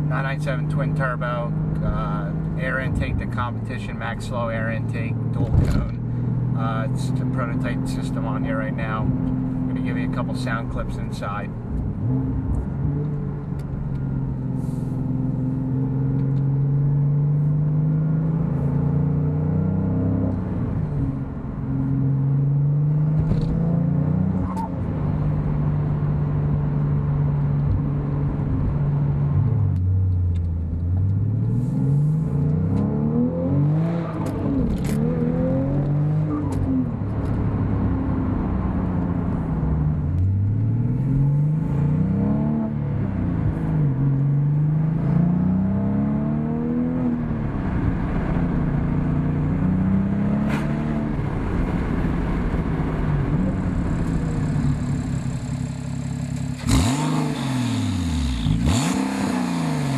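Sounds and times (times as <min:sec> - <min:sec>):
car engine accelerating through gears: 0:04.9 - 0:59.9.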